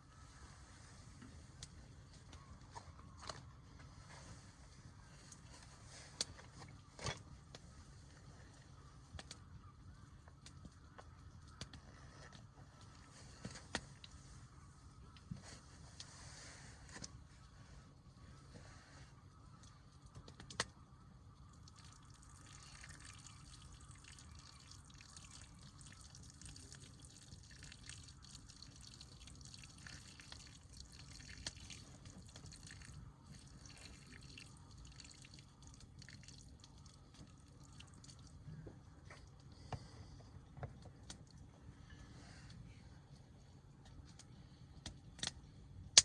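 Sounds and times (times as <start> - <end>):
low steady background noise: 0.0 - 46.0
wood fire crackling: 4.9 - 39.9, 40.8 - 46.0.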